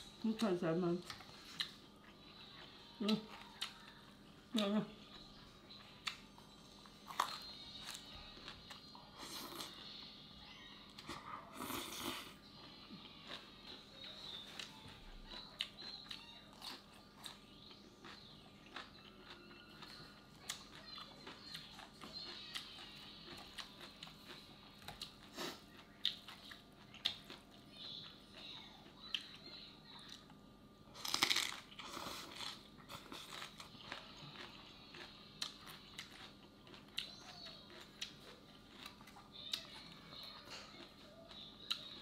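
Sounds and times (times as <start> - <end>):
crunching and chewing vegetables: 0.0 - 42.0.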